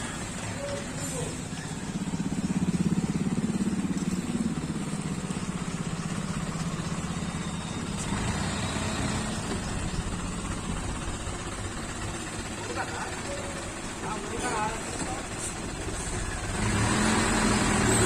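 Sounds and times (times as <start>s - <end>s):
harvester engine running: 0.0s - 18.0s.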